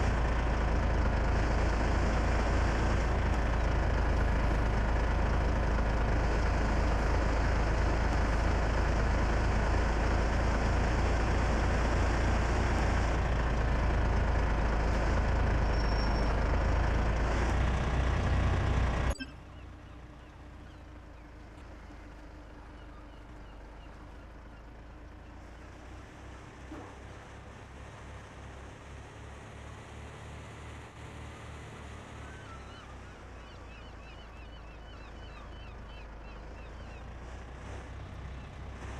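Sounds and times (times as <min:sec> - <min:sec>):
heavy truck engine running: 0:00.0 - 0:38.9.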